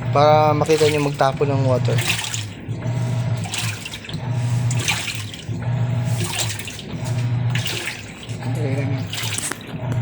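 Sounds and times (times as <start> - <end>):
washing machine motor hum: 0.0 - 10.0
water draining rushing out: 0.0 - 10.0.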